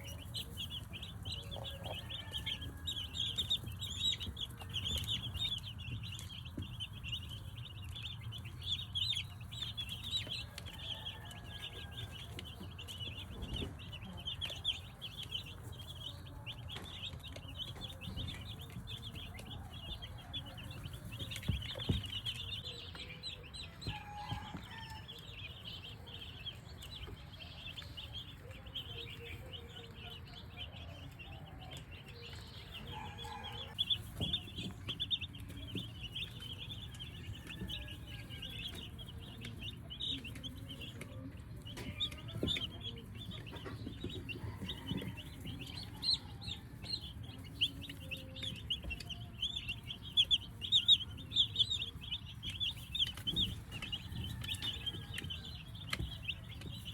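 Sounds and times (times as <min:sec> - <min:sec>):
chicks peeping: 0:00.0 - 0:56.9.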